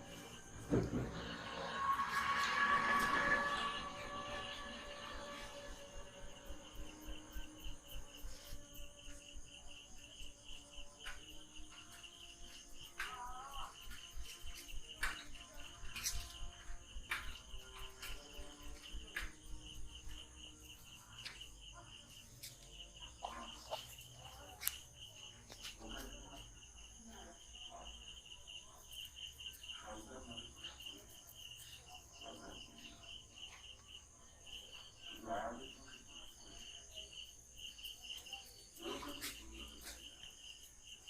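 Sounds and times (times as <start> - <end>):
insects chirping in a trill: 0.0 - 41.0.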